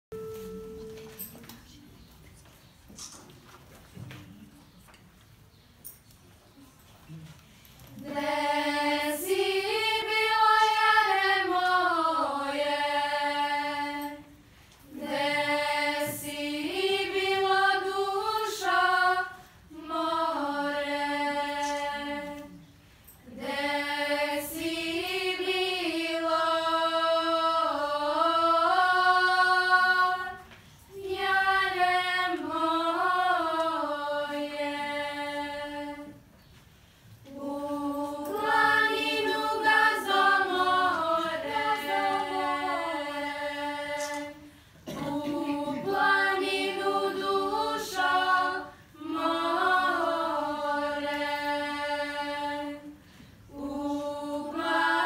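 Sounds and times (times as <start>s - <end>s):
girls' choir singing unaccompanied: 7.9s - 36.6s, 37.2s - 55.0s.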